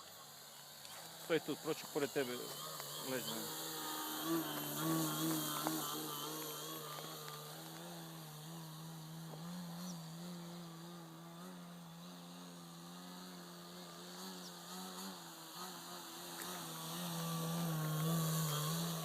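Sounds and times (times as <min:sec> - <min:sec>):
model airplane propeller buzz: 0:00.0 - 0:19.0.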